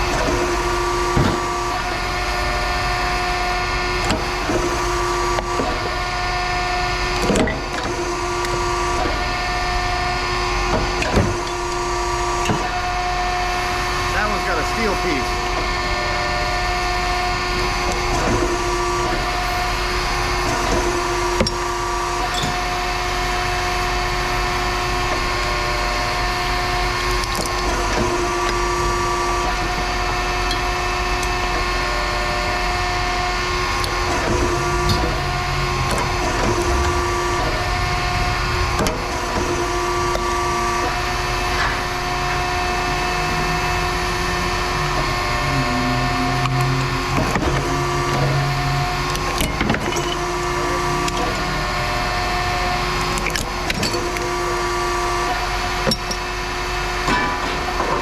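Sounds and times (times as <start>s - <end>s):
machinery hum and whine: 0.0s - 58.0s.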